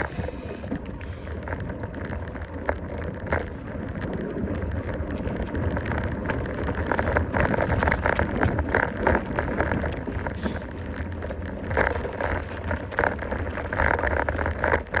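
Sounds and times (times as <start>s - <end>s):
bike tyres on rough trail: 0.0s - 15.0s
wind buffeting microphone: 0.0s - 15.0s.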